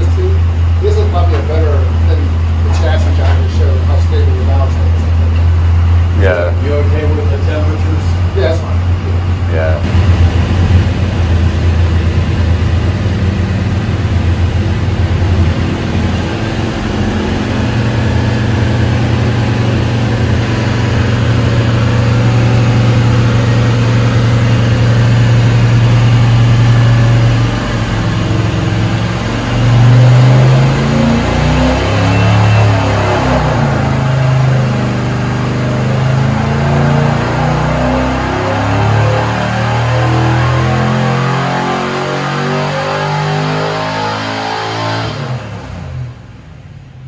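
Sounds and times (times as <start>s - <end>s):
engine running and revving: 0.0s - 47.0s.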